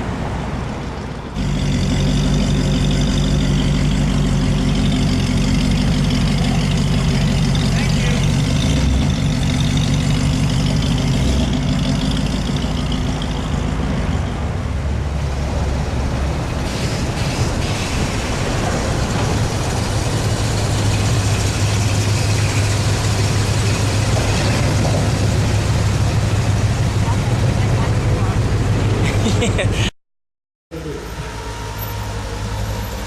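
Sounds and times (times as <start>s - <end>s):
car engines idling: 0.0s - 29.9s, 30.7s - 33.0s.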